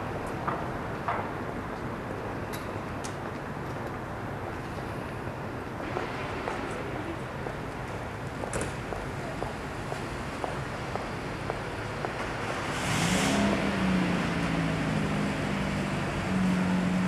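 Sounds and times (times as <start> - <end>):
street noise hiss: 0.0 - 17.0.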